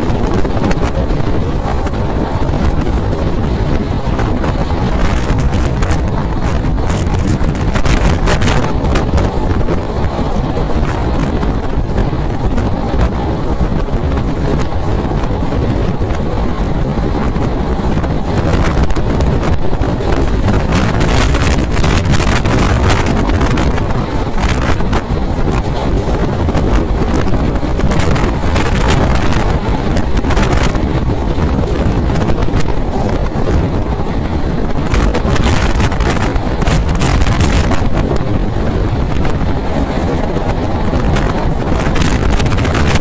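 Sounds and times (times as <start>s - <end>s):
train wheels rumbling on track: 0.0s - 43.0s
wind buffeting microphone: 0.0s - 43.0s.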